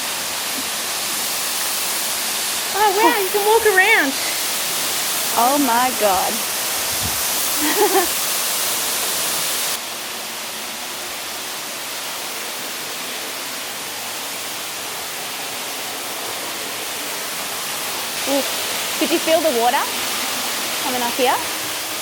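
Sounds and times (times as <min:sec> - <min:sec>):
waterfall pouring: 0:00.0 - 0:22.0.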